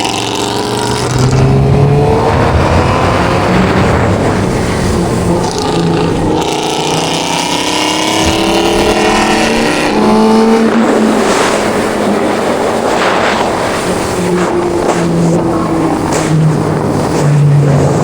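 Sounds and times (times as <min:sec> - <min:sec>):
motorcycle engine accelerating: 0:00.0 - 0:18.0
wind rush over microphone: 0:01.0 - 0:18.0.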